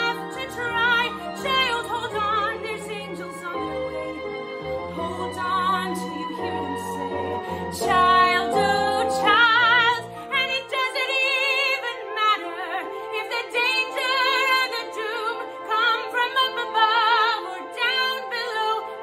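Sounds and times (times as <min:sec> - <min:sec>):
woman singing a ballad: 0:00.0 - 0:04.2, 0:05.0 - 0:19.0
instrumental accompaniment: 0:00.0 - 0:15.5.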